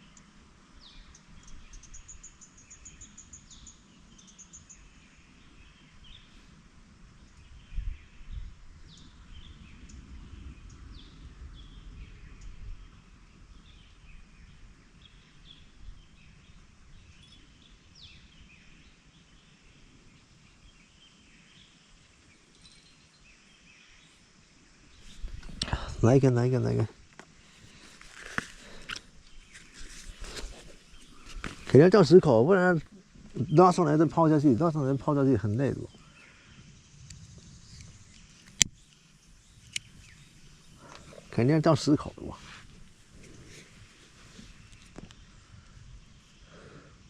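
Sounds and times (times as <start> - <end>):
birds chirping: 0.0 - 6.6, 7.2 - 47.0.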